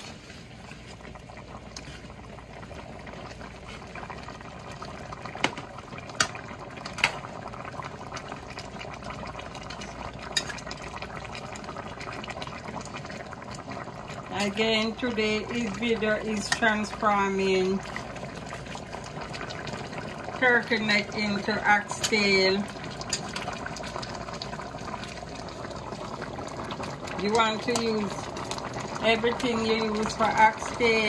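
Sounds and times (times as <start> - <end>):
gravy bubbling in a pan: 0.0 - 31.0.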